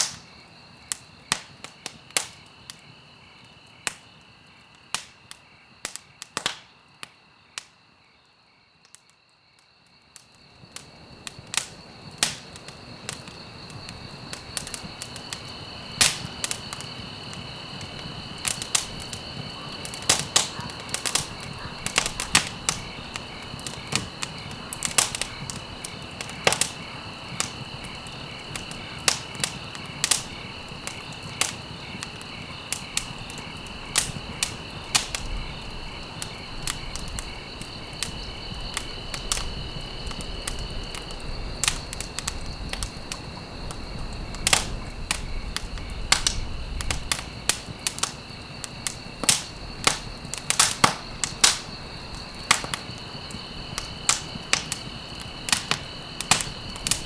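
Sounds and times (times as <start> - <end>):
wood fire crackling and popping: 0.0 - 7.8, 9.8 - 57.0.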